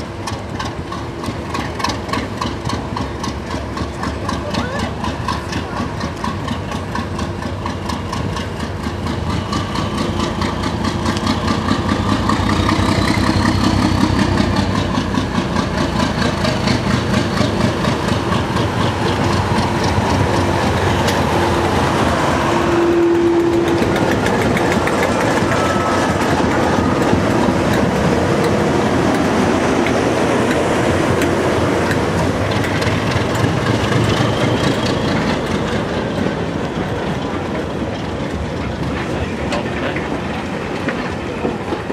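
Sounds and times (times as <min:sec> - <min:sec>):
diesel locomotive engine working hard: 0:00.0 - 0:41.9.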